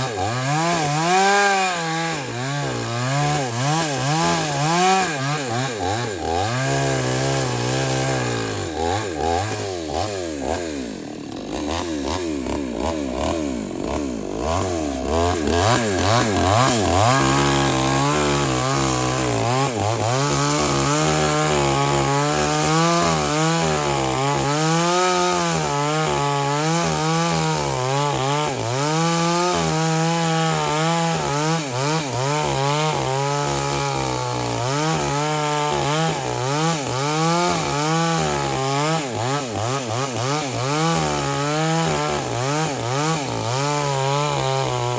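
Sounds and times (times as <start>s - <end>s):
chainsaw running: 0.0s - 44.9s.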